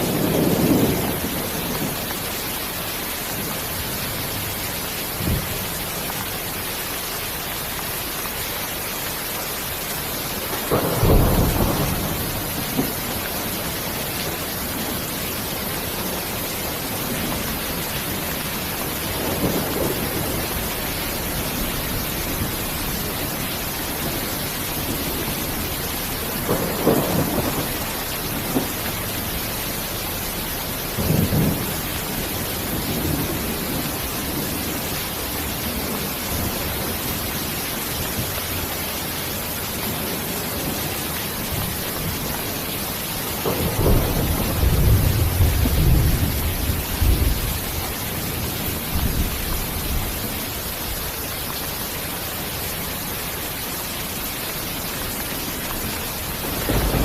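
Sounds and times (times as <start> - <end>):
thunder rumbles: 0.0 - 7.0, 9.6 - 51.6, 54.9 - 57.0
rain hiss: 0.0 - 57.0.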